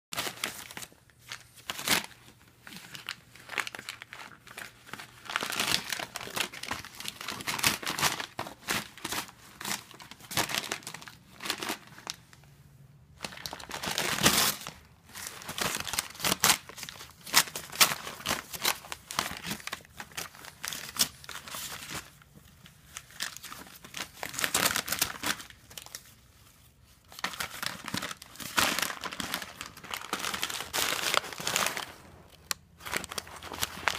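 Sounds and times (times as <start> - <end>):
paper crinkling and tearing: 0.2 - 12.3, 13.2 - 33.9.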